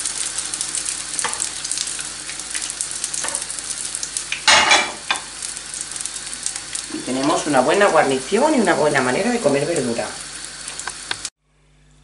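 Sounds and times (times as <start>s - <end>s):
food sizzling in hot oil: 0.0s - 11.4s.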